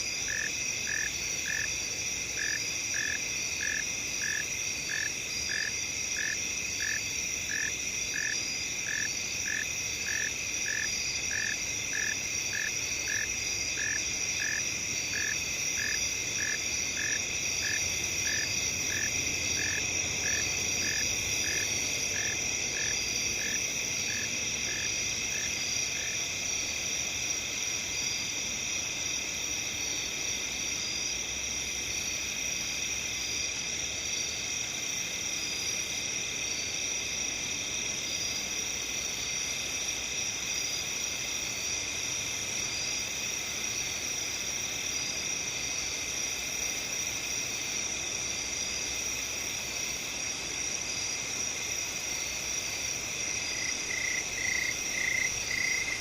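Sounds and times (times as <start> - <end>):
crickets and insects chorus: 0.0 - 56.0.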